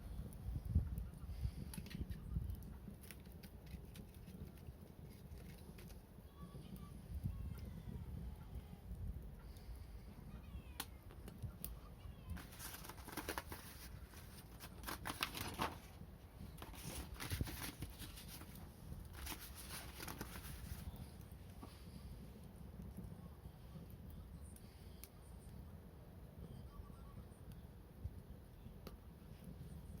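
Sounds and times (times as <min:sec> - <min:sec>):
wood fire crackling and popping: 0:00.0 - 0:26.6, 0:27.3 - 0:30.0.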